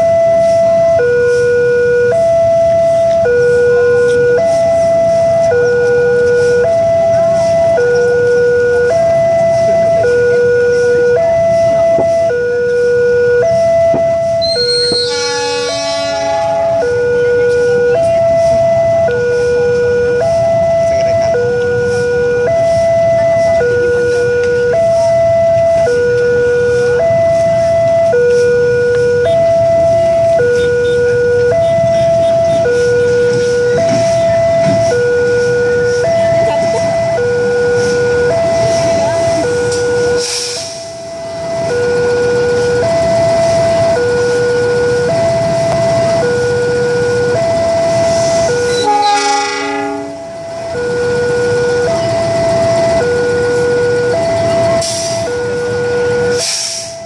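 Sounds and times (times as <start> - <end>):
level crossing two-tone alarm: 0.0 - 57.0
steady traffic noise: 0.0 - 57.0.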